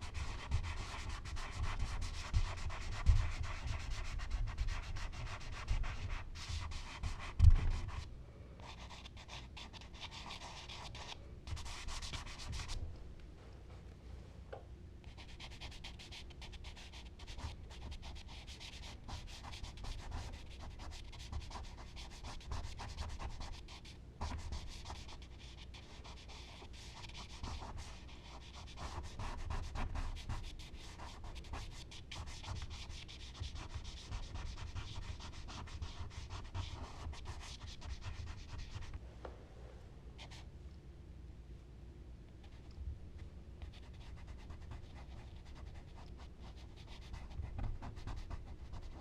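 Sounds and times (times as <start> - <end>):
charcoal scratching on paper: 0.0 - 8.0, 8.6 - 12.8, 15.1 - 39.0, 43.6 - 49.0.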